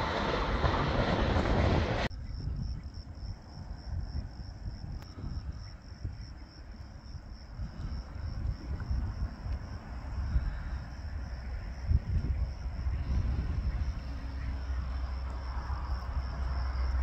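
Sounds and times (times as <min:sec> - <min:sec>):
wind rumble on microphone: 0:00.0 - 0:17.0
insects trilling: 0:02.1 - 0:17.0.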